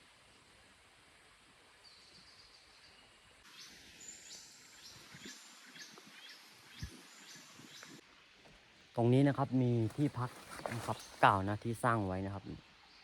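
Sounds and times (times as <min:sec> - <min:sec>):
faint forest ambience: 0:00.0 - 0:13.0.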